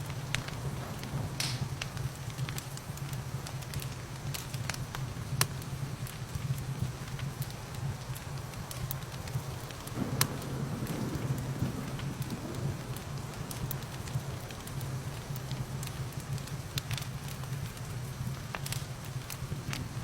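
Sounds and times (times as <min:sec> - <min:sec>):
fire popping sharply: 0:00.0 - 0:04.8, 0:08.7 - 0:20.0
steady rain: 0:00.0 - 0:20.0
wood fire crackling: 0:00.0 - 0:20.0.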